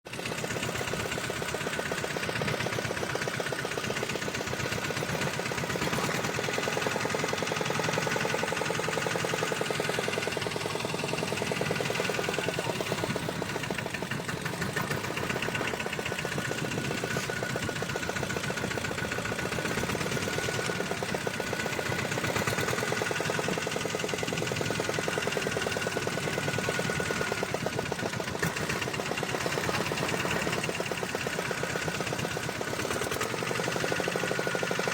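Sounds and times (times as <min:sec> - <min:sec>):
boat engine knocking: 0:00.1 - 0:34.9.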